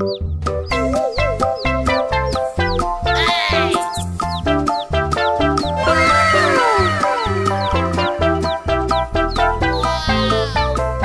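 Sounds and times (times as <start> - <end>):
bouncy children's music: 0.0 - 11.0.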